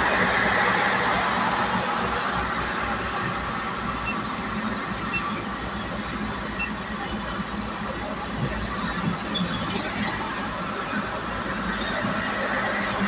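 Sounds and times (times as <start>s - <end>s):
engine hum and rumble: 0.0s - 13.0s.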